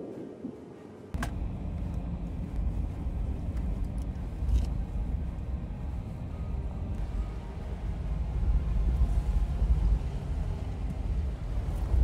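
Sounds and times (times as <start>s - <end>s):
vehicle road and engine rumble: 1.1s - 12.0s.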